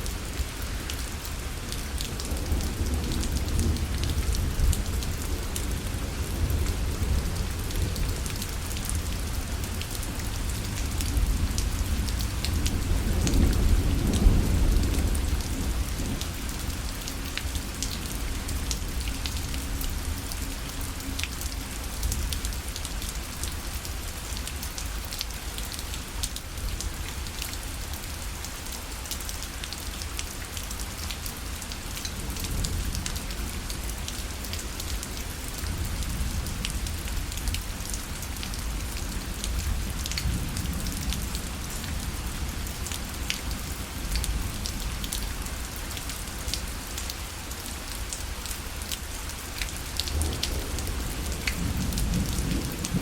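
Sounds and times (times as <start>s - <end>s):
rain pattering on a parasol: 0.0s - 53.0s.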